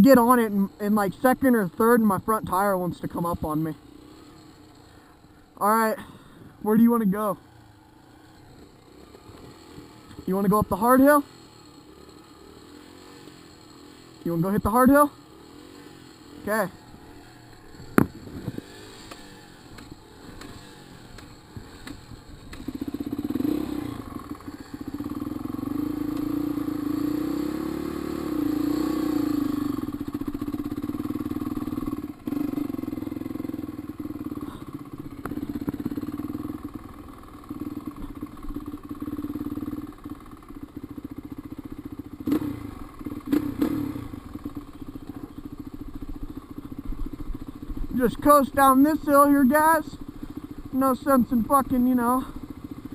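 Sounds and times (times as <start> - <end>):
dirt bike engine: 0.0 - 52.9.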